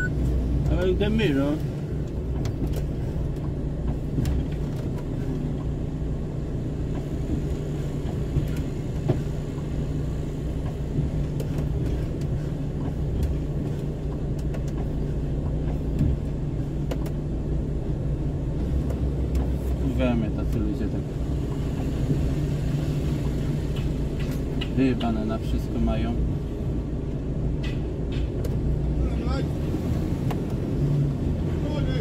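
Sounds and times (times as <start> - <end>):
diesel engine humming: 0.0 - 32.0.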